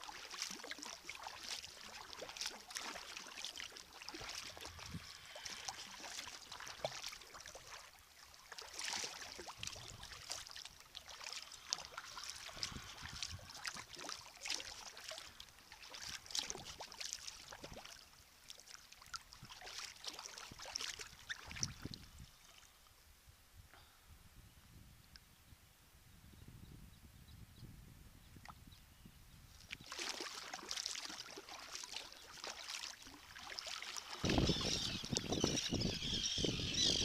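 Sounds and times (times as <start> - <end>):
kayak paddle strokes in water: 0.0 - 22.8, 29.6 - 36.8.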